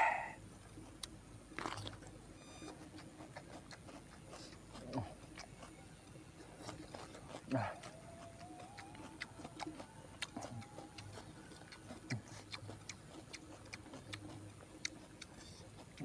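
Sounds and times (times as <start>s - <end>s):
person chewing food: 0.0s - 16.0s
mouth clicks and lip smacks: 0.8s - 5.8s, 6.6s - 16.0s.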